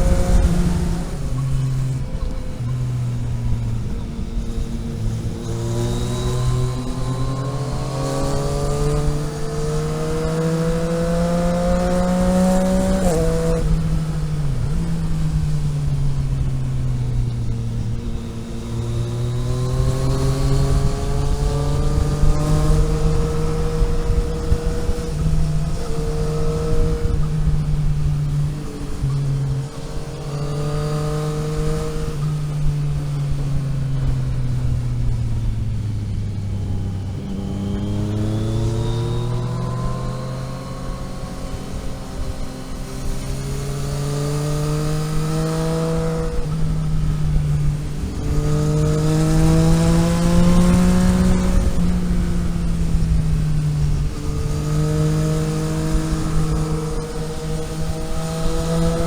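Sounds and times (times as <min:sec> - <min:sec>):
vehicle engine changing gears: 0:00.0 - 0:59.0.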